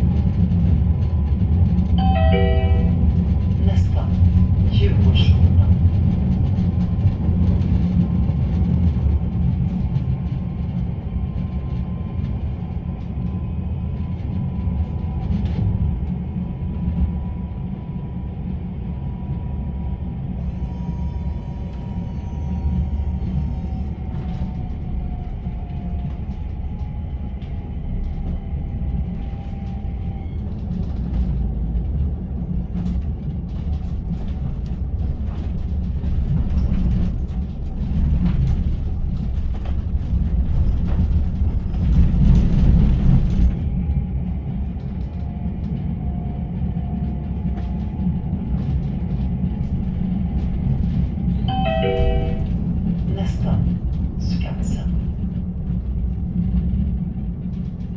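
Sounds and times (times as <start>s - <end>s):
tram wheels rumbling on rail: 0.0s - 57.9s.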